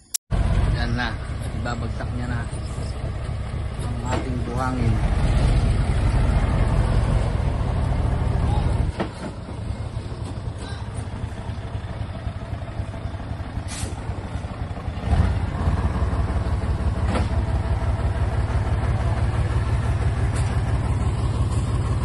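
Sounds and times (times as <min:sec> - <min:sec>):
diesel truck engine revving: 0:00.3 - 0:22.0.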